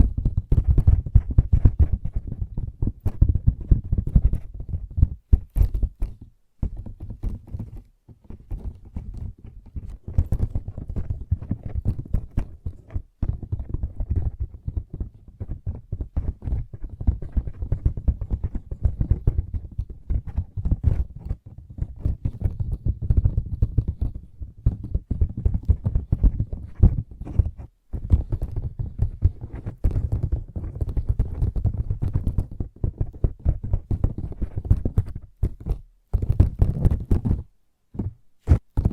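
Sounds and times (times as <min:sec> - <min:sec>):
fingertip tapping and scratching: 0:00.0 - 0:38.9.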